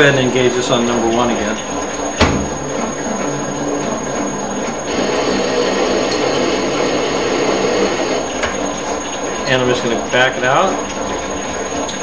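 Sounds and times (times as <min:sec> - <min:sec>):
metal lathe motor droning: 0:00.0 - 0:12.0.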